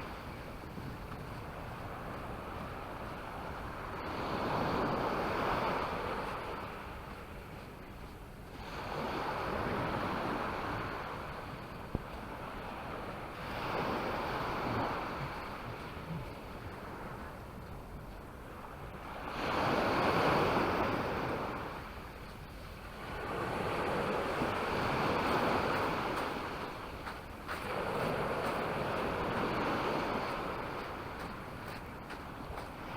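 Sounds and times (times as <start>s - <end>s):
sea waves breaking on beach: 0.0s - 7.8s, 8.5s - 32.9s.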